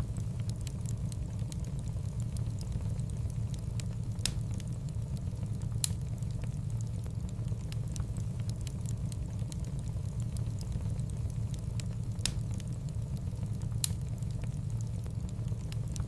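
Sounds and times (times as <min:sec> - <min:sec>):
fire crackling pops: 0:00.0 - 0:16.0
fire flames rumbling: 0:00.0 - 0:16.0.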